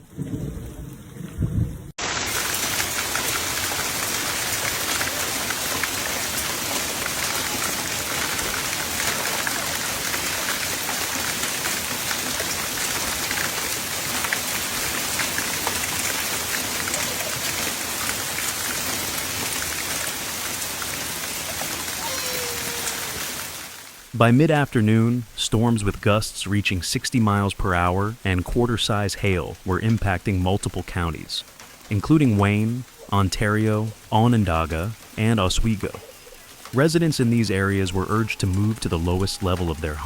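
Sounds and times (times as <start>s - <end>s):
heavy rain pelting down: 0.0s - 40.0s.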